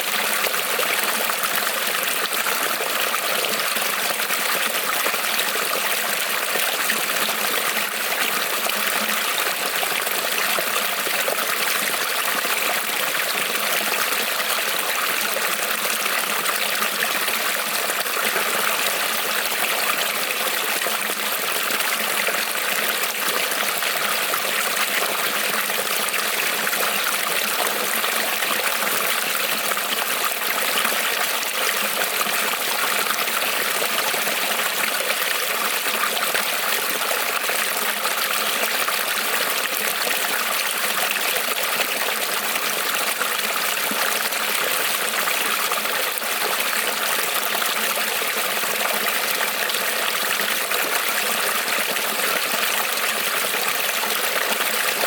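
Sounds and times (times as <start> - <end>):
creek trickling over stones: 0.0 - 55.0.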